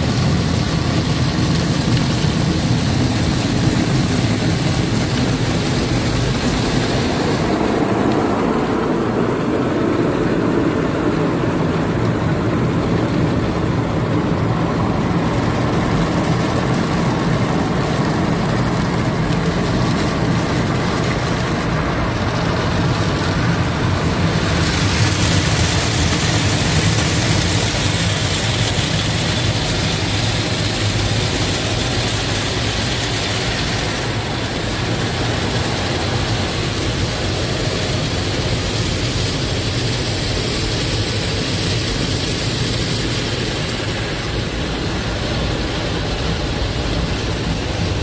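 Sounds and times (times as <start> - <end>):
water spray rushing on car: 0.0 - 48.0.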